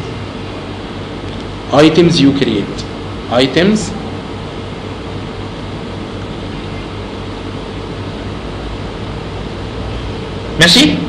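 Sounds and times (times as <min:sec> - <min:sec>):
faint low electrical hum: 0:00.0 - 0:11.0
steady background hiss: 0:00.0 - 0:11.0.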